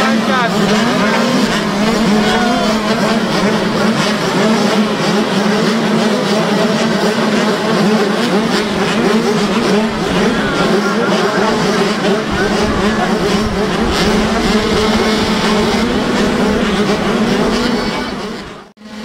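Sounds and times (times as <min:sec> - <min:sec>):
throttles blipping: 0:00.0 - 0:18.7
motocross bike engines buzzing: 0:00.0 - 0:19.0.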